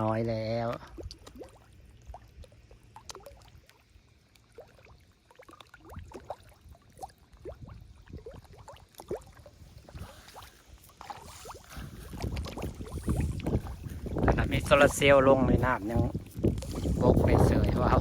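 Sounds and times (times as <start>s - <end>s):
water dripping into pond: 0.0s - 16.9s.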